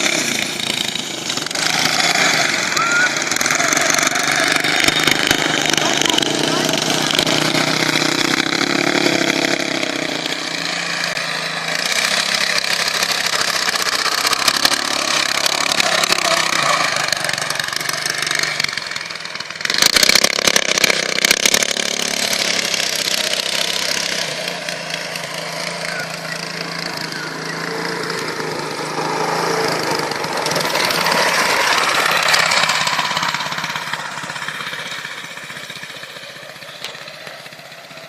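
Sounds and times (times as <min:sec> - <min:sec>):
buggy engine running: 0:00.0 - 0:38.0
loud rattling burst: 0:00.0 - 0:38.0.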